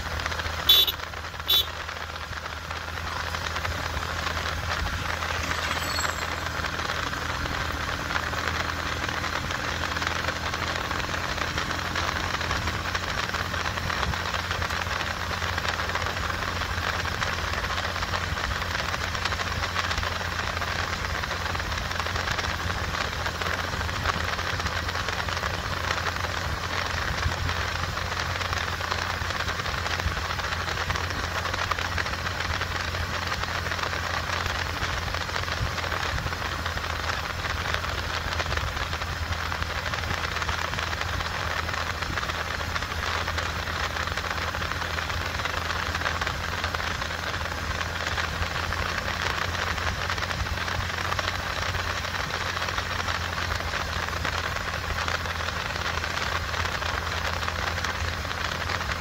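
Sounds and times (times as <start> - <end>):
motorcycle engine humming: 0.0 - 59.0.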